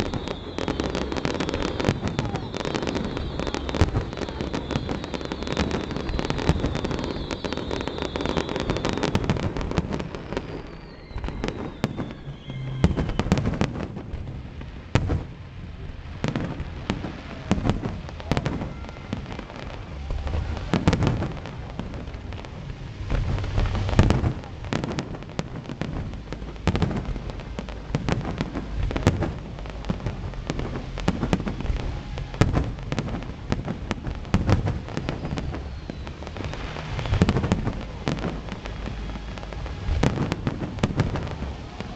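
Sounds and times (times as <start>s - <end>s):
falling firework whistle: 0.0s - 14.3s, 16.3s - 41.9s
fireworks crackling: 0.0s - 41.9s.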